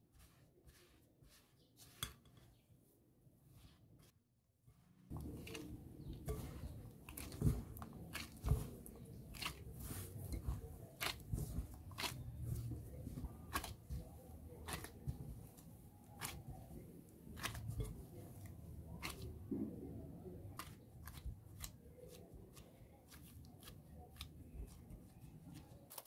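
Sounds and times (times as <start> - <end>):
mixture squishing and crunching: 0.0 - 2.7, 3.4 - 26.0.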